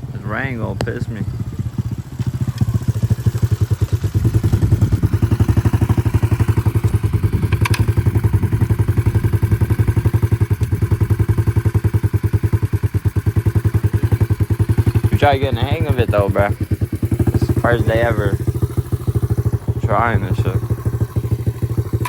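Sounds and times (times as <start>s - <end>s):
dirt bike engine idling: 0.0s - 22.0s.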